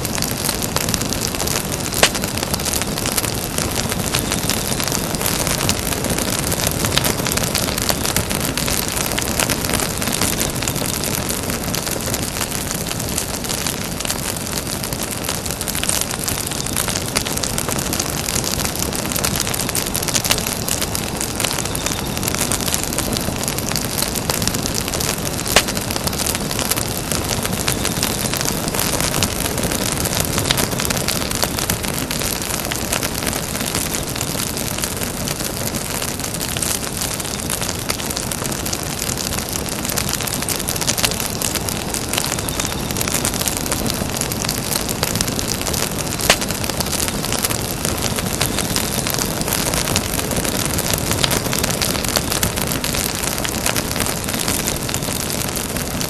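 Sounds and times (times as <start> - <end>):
campfire crackling: 0.0 - 56.0
sharp pops of fire: 0.0 - 56.0.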